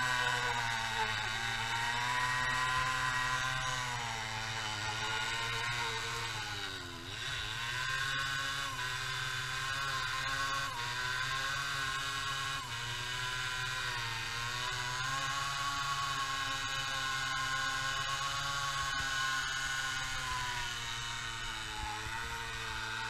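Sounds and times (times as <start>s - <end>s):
moped engine revving high: 0.0s - 23.0s.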